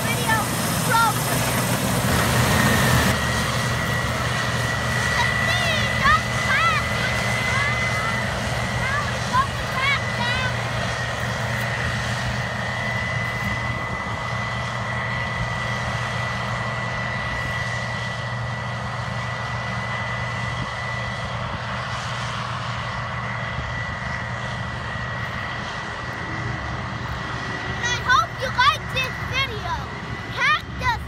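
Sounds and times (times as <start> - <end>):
combine harvester drone: 0.0 - 31.0
high machinery whine: 0.0 - 31.0.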